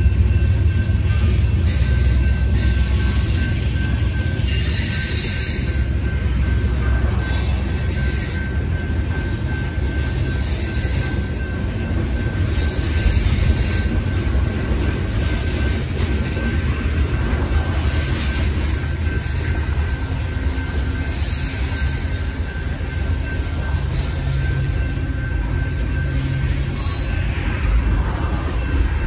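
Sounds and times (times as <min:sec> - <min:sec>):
high-pitched wheel noise: 0:00.0 - 0:29.0
train wheels rumbling on rail: 0:00.0 - 0:29.0.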